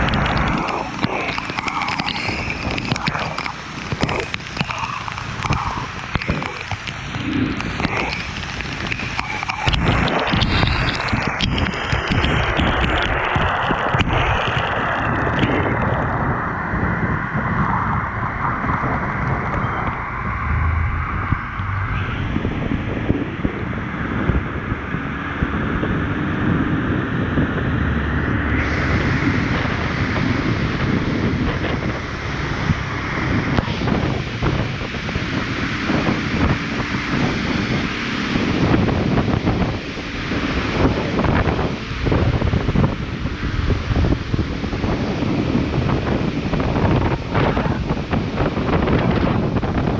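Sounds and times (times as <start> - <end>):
road and vehicle rumble: 0.0 - 49.9
wind noise on microphone: 0.0 - 49.9.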